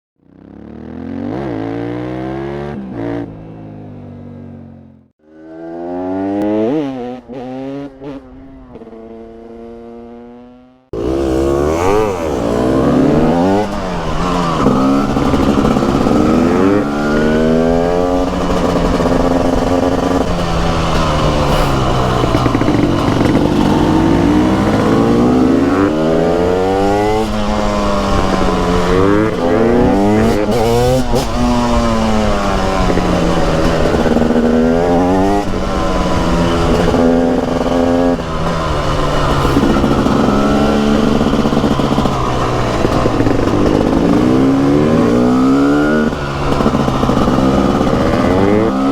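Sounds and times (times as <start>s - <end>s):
motorcycle two-stroke engine revving: 0.2s - 48.9s.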